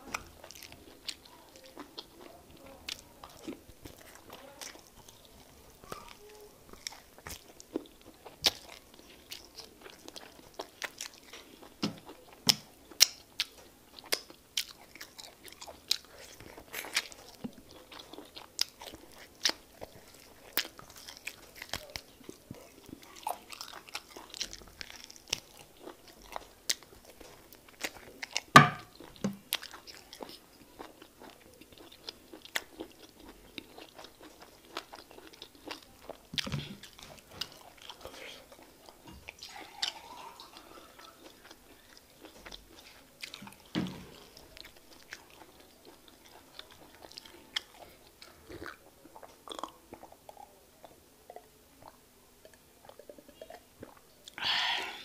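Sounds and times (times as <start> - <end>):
wet chewing: 0.0 - 54.7.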